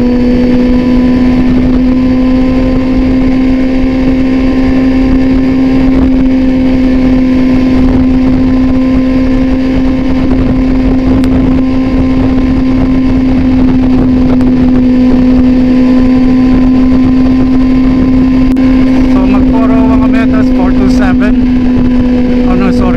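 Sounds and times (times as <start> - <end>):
motorcycle engine cruising: 0.0 - 22.9
wind noise on microphone: 0.0 - 22.9.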